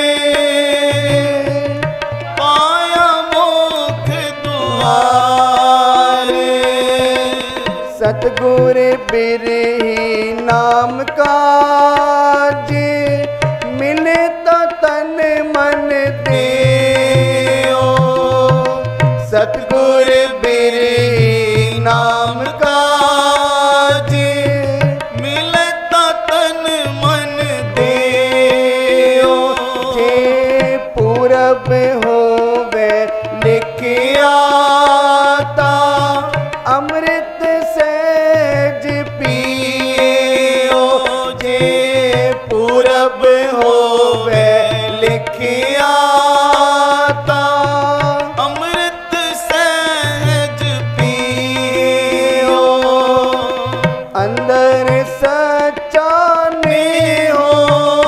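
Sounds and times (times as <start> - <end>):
harmoniums playing melody: 0.0 - 58.0
men singing: 0.0 - 58.0
tabla drumming: 0.0 - 58.0.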